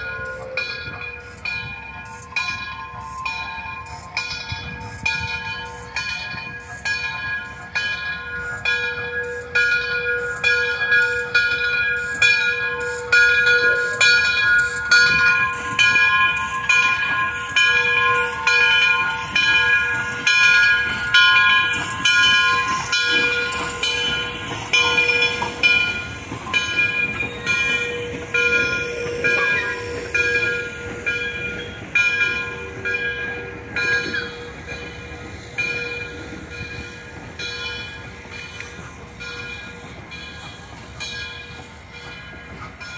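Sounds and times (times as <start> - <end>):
locomotive bell ringing: 0.0 - 42.9
steam hissing: 0.0 - 42.9
steam locomotive moving slowly: 0.0 - 42.9.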